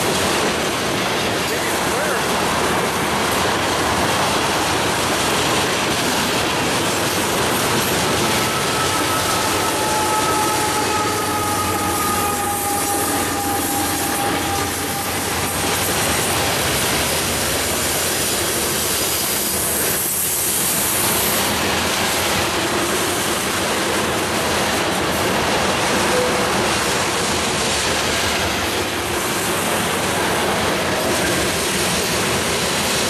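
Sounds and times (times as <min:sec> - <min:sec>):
train wheels clattering on rails: 0:00.0 - 0:33.0.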